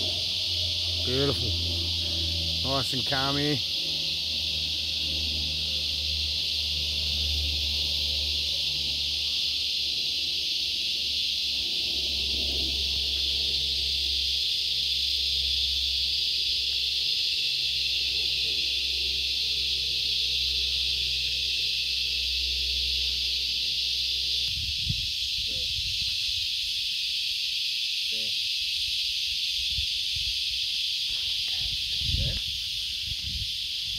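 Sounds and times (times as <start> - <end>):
high-pitched insect chorus: 0.0 - 33.9.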